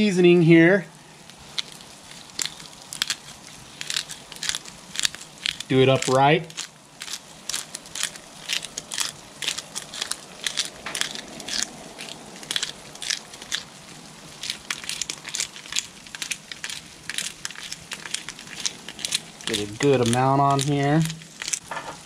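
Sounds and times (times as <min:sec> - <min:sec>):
hand spice grinder grinding: 0:01.5 - 0:13.7, 0:14.4 - 0:22.0.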